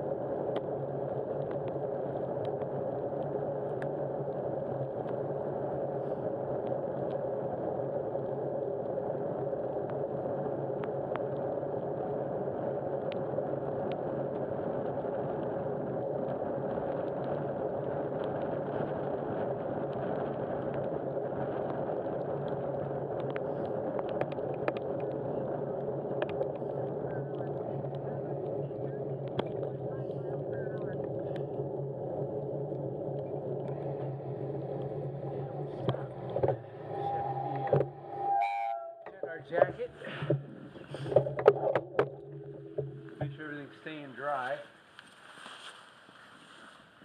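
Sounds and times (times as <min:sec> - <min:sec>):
faint clicks: 0:00.4 - 0:38.4.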